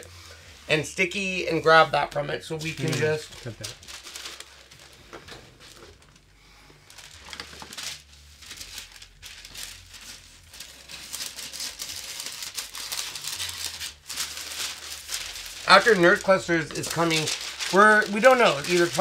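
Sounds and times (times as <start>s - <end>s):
paper crinkling and rustling: 1.0s - 19.0s.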